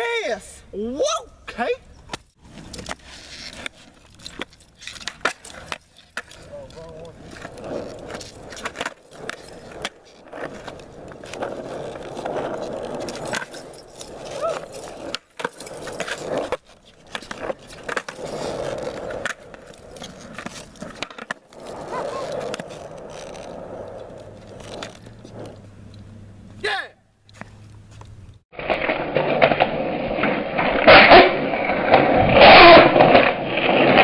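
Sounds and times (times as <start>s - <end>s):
skateboard wheels rolling on asphalt: 1.9s - 34.0s
skateboard clacking on ground: 2.0s - 26.6s, 27.3s - 34.0s.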